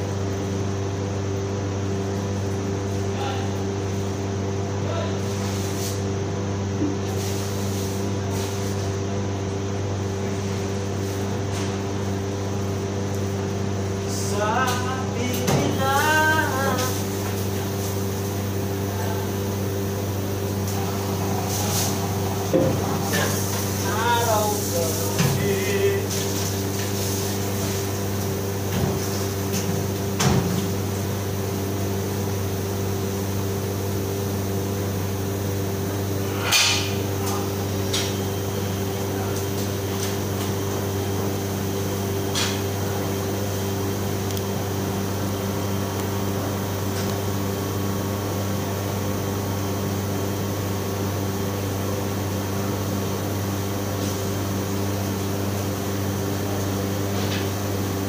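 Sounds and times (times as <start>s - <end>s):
kitchen equipment humming: 0.0s - 58.0s.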